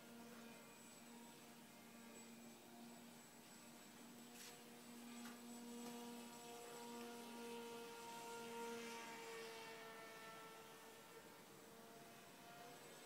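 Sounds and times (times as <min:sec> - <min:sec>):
distant electric motor hum: 0:00.0 - 0:13.0.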